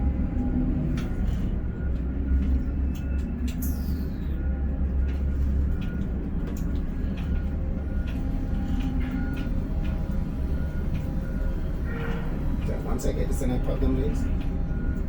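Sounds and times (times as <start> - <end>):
crane machinery low rumble: 0.0 - 15.0.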